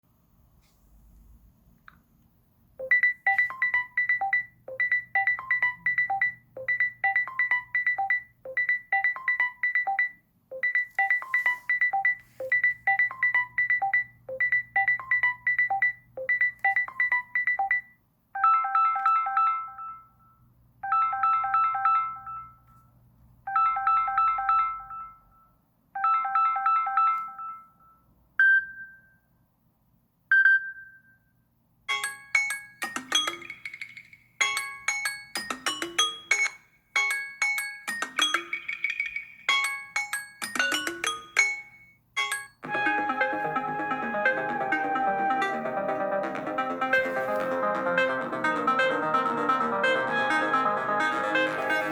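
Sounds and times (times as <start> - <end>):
phone ringtone melody: 2.8 - 20.2, 20.8 - 22.6, 23.5 - 25.4, 26.0 - 27.9, 31.9 - 51.9.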